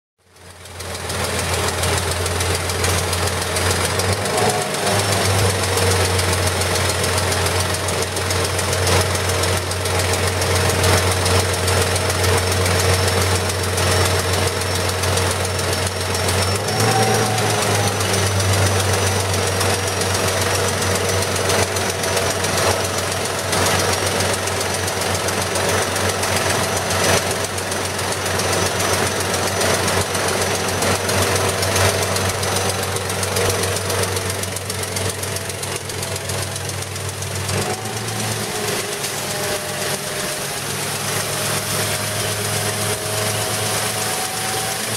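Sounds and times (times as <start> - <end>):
engine and pump droning: 0.2 - 44.9.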